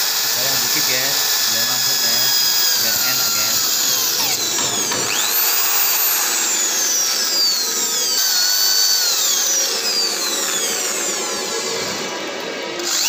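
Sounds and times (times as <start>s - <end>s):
drill bit squealing: 0.0s - 13.0s
power drill grinding metal: 0.0s - 13.0s.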